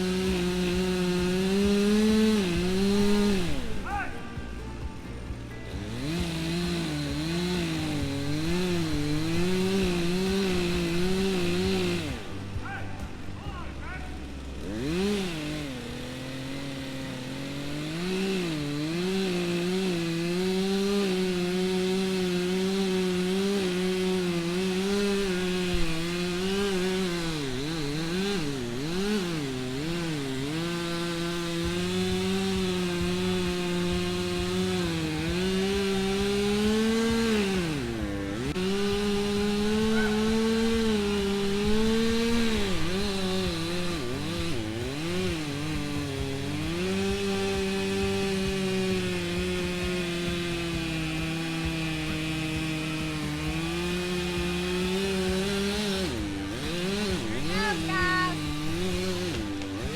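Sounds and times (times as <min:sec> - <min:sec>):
chainsaw cutting tree trunk: 0:00.0 - 0:59.9.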